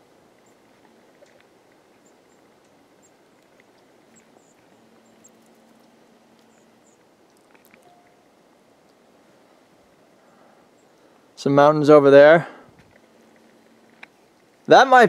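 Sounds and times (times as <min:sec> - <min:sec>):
faint steady hum: 0:00.0 - 0:15.0
faint wind: 0:00.0 - 0:15.0
songbirds chirping: 0:00.0 - 0:15.0.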